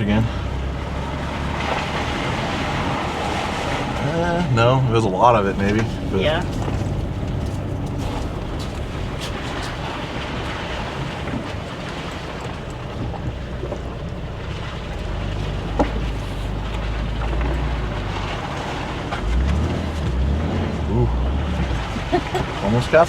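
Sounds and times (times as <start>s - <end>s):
pickup engine rumble: 0.0s - 23.0s
road and tyre noise: 0.0s - 23.0s.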